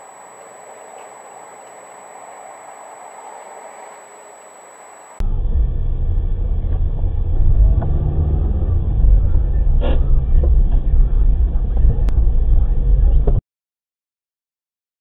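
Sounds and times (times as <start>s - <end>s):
car engine and tyres rumbling: 0.0s - 13.4s.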